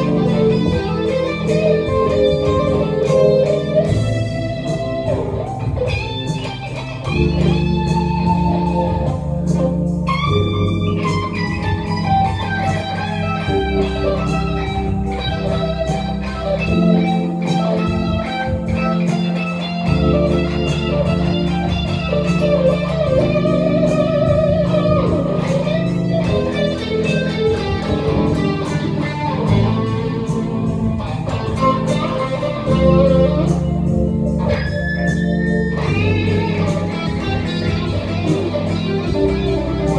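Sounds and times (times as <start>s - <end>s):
bluesy electric guitar lead: 0.0s - 39.9s
low bass notes: 0.0s - 39.9s.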